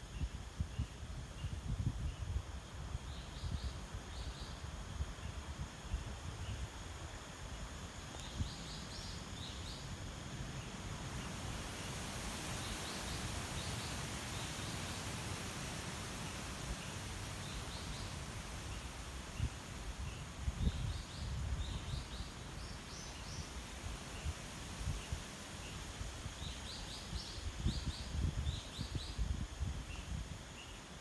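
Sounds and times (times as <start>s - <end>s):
insect-like hiss: 0.0s - 31.0s.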